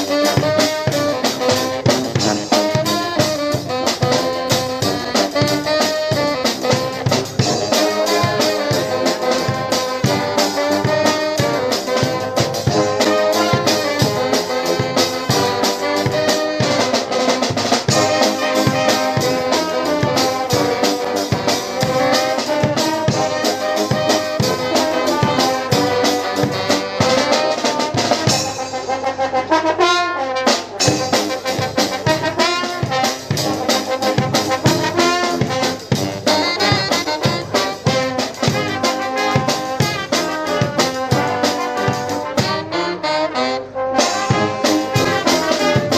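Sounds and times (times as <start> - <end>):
brass band playing: 0.0 - 45.9
drum kit beat: 0.0 - 45.9.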